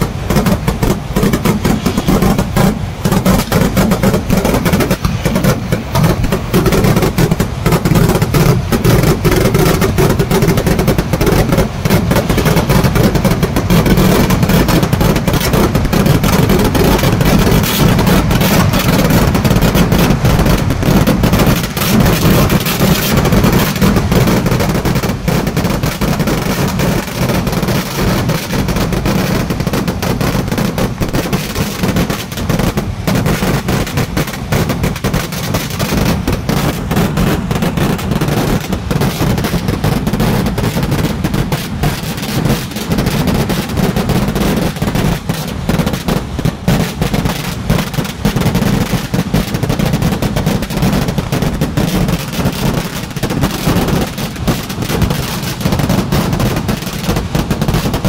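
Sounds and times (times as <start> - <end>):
fireworks barrage crackling: 0.0 - 58.0.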